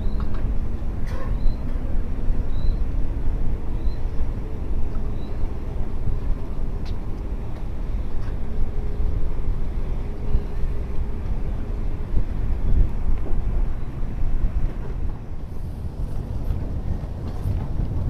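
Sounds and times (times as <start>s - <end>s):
outboard motor rumbling: 0.0s - 18.0s
wind buffeting microphone: 0.0s - 18.0s.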